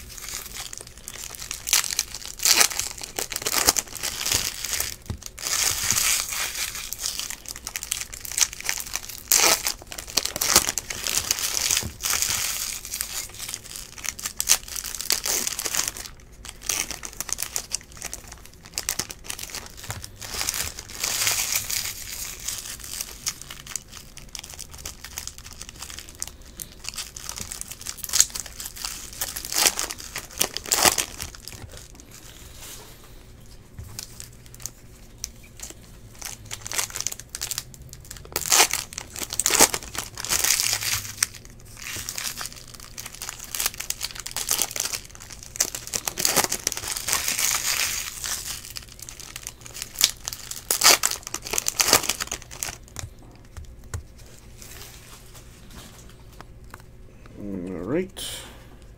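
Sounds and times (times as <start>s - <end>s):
foil wrappers tearing and crinkling: 0.0s - 56.1s.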